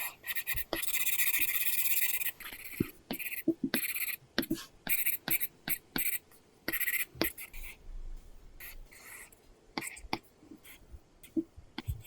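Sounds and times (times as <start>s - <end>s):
stylus scratching on screen: 0.0s - 12.0s.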